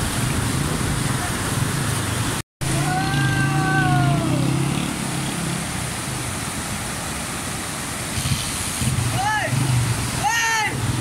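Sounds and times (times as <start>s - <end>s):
road noise on rough track: 0.0s - 11.0s.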